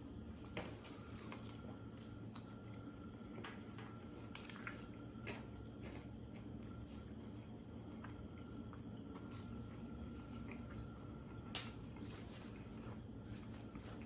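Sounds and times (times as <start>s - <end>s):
low room hum: 0.0s - 14.0s
person chewing crispy food: 0.4s - 14.0s.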